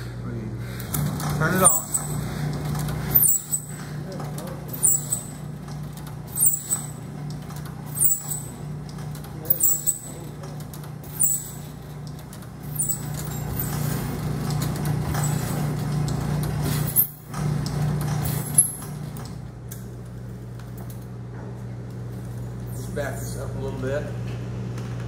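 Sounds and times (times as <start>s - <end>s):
motor hum: 0.0s - 25.0s
feed mechanism clicks: 0.8s - 21.1s.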